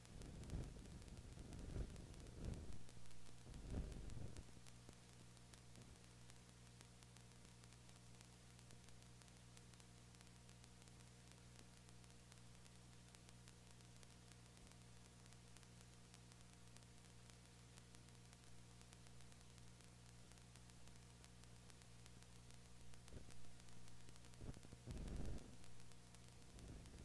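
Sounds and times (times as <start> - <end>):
faint steady hum and hiss: 0.0 - 27.0.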